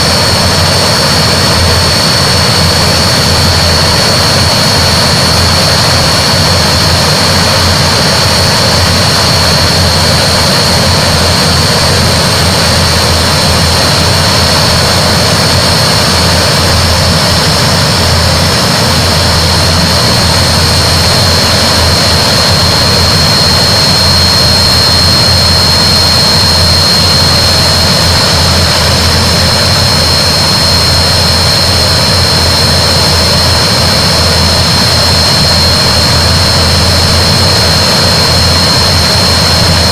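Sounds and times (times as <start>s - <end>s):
low drone of propellers: 0.0s - 39.9s
turbine whine: 0.0s - 39.9s.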